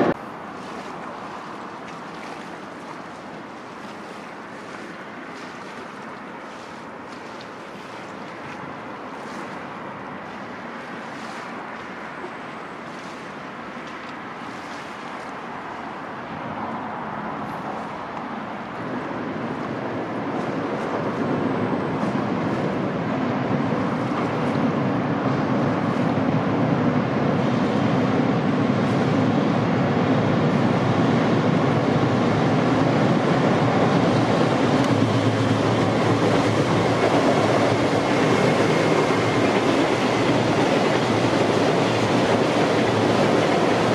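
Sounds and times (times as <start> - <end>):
freight train on railway bridge: 0.0 - 43.9.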